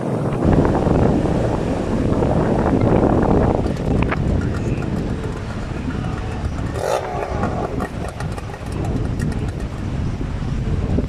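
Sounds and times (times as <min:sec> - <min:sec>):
engine low rumble: 0:00.0 - 0:11.0
wind buffeting microphone: 0:00.0 - 0:11.0.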